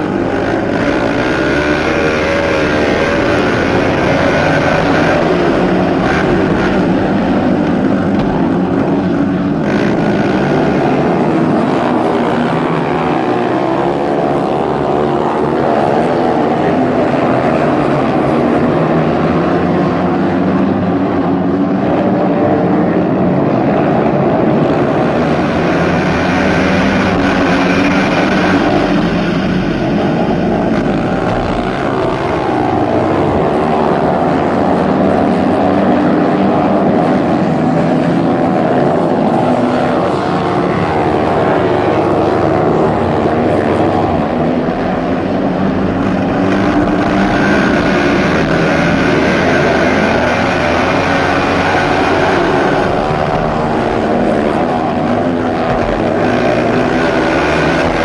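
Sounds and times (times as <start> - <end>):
racing motorcycle engines: 0.0 - 58.0.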